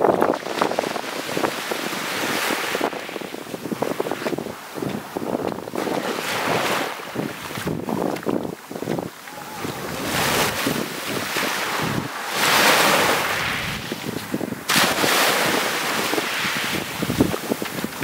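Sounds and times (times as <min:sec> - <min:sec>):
small waves washing onto shore: 0:00.0 - 0:18.0
wind buffeting microphone: 0:00.0 - 0:18.0.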